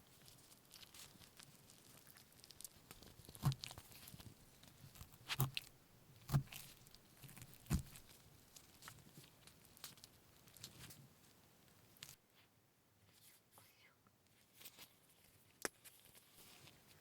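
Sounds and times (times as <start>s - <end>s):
crunchy clicks and rustles: 0.0s - 12.2s, 14.4s - 17.0s.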